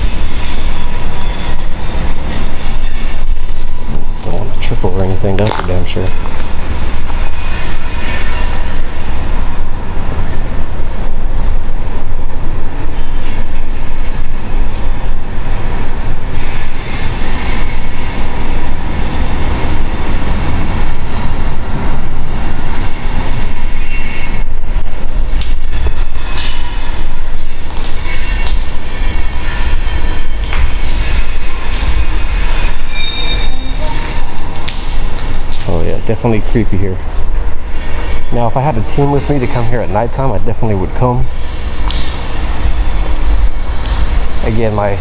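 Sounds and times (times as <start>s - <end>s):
loud continuous rumbling: 0.0s - 45.0s.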